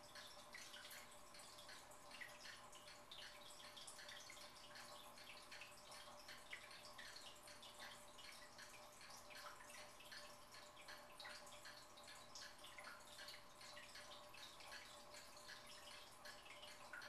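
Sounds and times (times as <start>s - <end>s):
fish tank water trickling: 0.0s - 17.0s.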